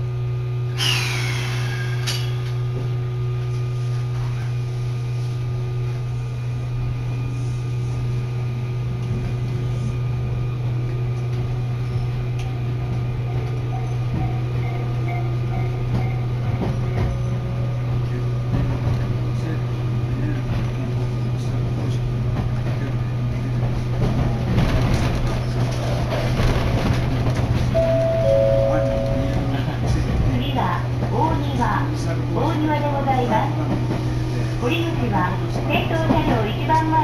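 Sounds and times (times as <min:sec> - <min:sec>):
train running noise: 0:00.0 - 0:37.0.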